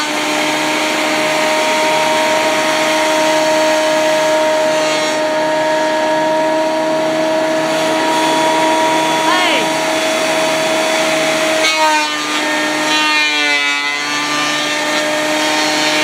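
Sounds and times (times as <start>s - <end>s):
thickness planer motor whine: 0.0s - 16.0s.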